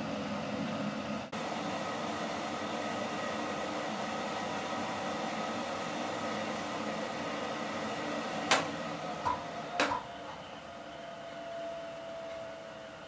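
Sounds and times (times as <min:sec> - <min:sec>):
blower rushing air with whine: 0:00.0 - 0:13.0.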